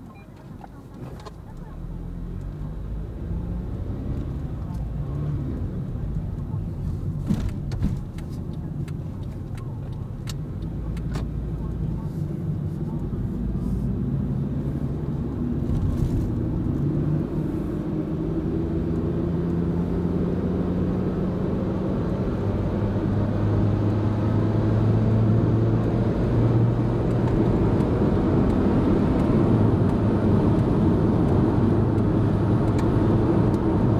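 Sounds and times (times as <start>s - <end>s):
tyre road noise: 0.0s - 33.9s
car engine accelerating: 0.1s - 33.9s.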